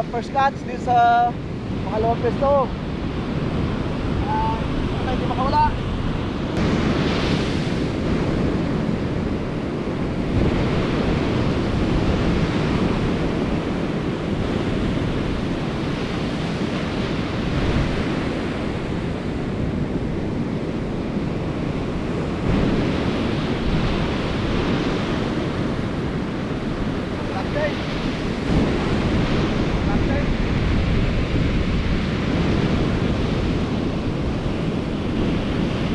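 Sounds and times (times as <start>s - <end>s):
surf breaking on beach: 0.0s - 35.9s
wind buffeting microphone: 0.0s - 35.9s.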